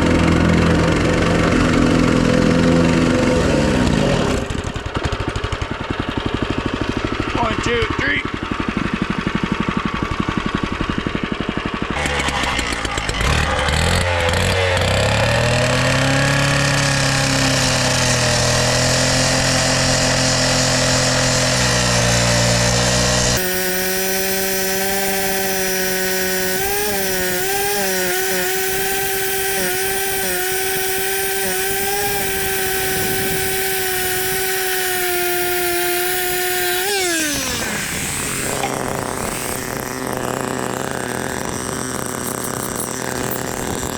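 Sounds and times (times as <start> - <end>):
small power tool engine running: 0.0 - 43.9.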